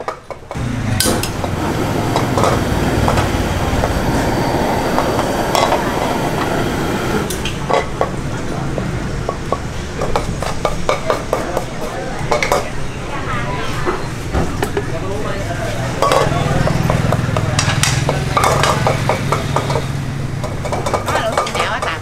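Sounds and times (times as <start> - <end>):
steady loud rushing noise: 0.6 - 22.0.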